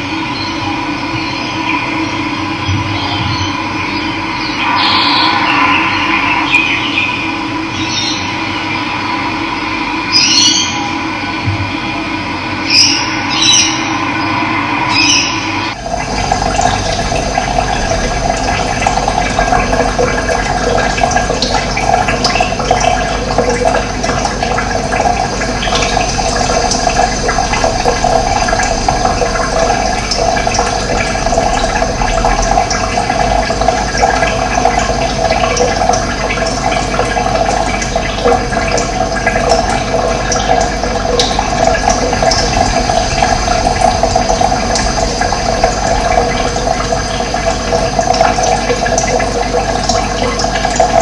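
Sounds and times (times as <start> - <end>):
water rushing: 4.2 - 10.8, 12.7 - 51.0.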